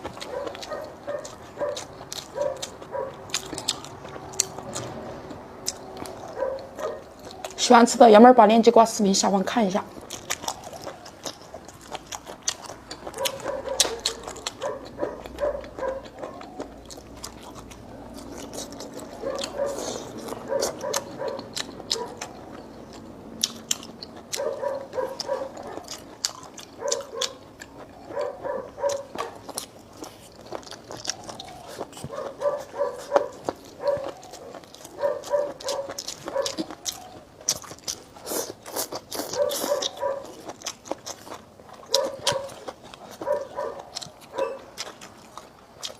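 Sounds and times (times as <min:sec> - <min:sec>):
person chewing food: 0:00.0 - 0:07.6, 0:09.9 - 0:45.9.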